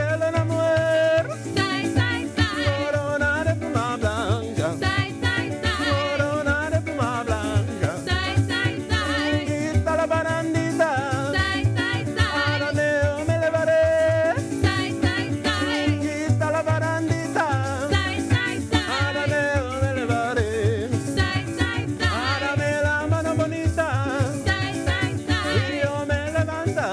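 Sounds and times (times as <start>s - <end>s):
band playing folk song: 0.0s - 26.9s
person singing: 1.4s - 13.3s, 14.3s - 16.4s, 17.1s - 26.9s.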